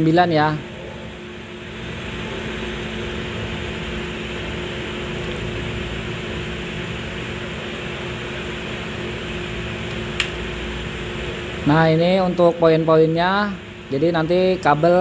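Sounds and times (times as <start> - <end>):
low even hum: 0.0 - 15.0.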